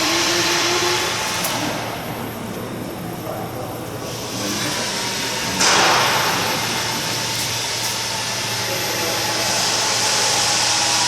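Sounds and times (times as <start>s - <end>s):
fan rushing air: 0.0s - 11.0s.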